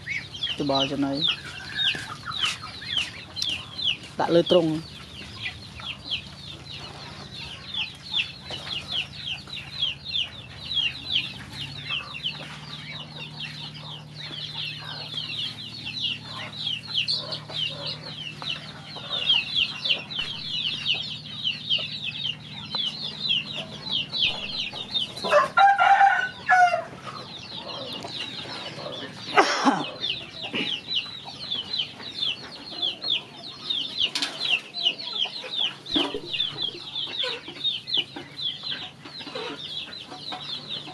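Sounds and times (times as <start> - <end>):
low steady hum: 0.0 - 34.6
chicken calls: 0.0 - 40.9
ducklings and chicks peeping: 0.0 - 40.9.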